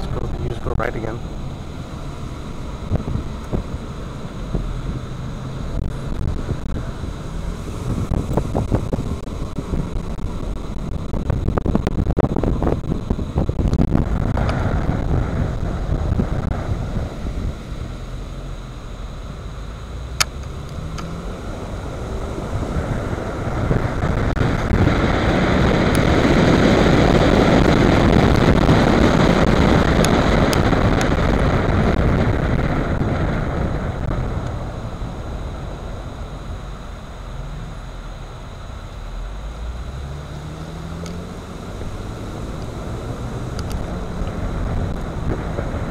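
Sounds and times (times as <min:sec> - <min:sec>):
wind on microphone: 0:00.0 - 0:18.5, 0:20.1 - 0:37.2, 0:39.6 - 0:45.9
car road and engine noise: 0:00.0 - 0:45.9.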